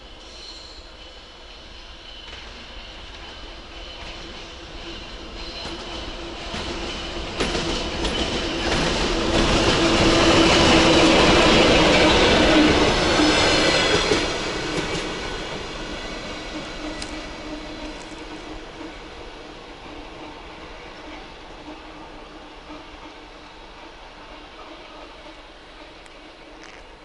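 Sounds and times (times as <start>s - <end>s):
diesel locomotive hum: 0.0s - 27.0s.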